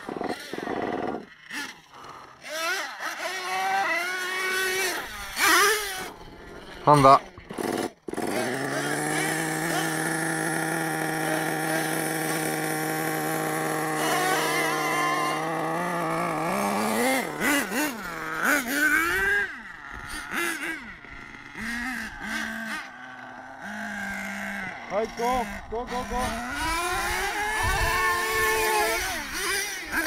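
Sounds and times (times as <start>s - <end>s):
small nitro engine revving: 0.0s - 30.0s.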